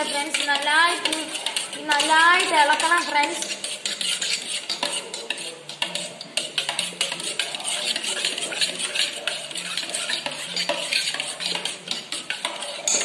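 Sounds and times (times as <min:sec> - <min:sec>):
metal spoon scraping a pot: 0:00.0 - 0:13.0.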